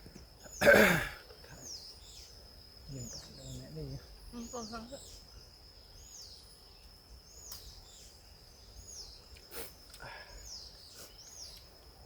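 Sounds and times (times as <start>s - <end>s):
high insect whine: 0.0s - 12.0s
birds calling: 0.4s - 12.0s.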